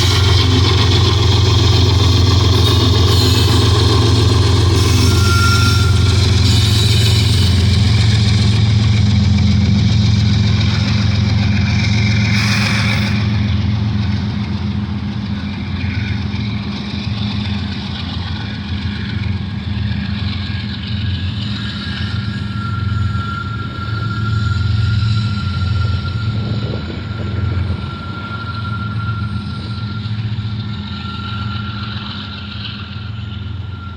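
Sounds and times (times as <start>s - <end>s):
high wheel squeal: 0.0s - 33.9s
train wheels rumbling on rail: 0.0s - 33.9s.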